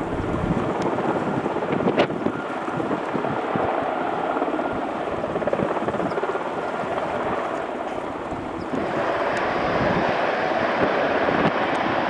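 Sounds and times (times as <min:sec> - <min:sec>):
distant helicopter running: 0:00.0 - 0:12.0.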